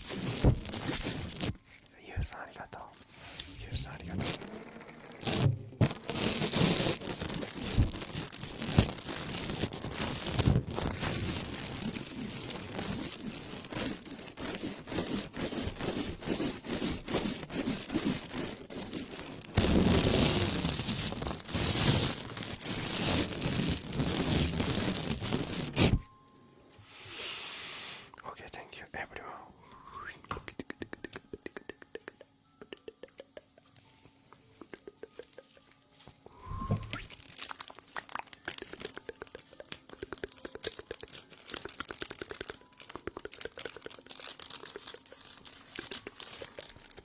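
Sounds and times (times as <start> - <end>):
crinkling and rustling material: 0.0 - 2.0, 3.0 - 26.1, 33.4 - 47.0.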